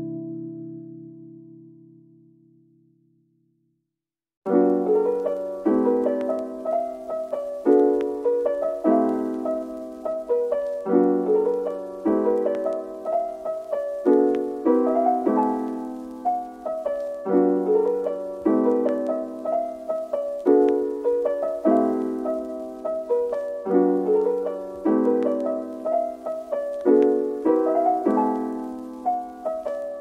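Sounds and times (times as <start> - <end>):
piano chords: 0.0 - 3.0, 4.5 - 30.0.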